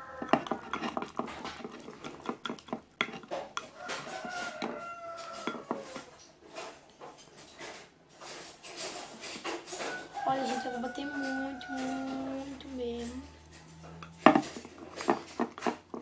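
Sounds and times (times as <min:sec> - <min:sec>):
utensil scraping a mixing bowl: 0:00.0 - 0:07.6, 0:08.2 - 0:16.0.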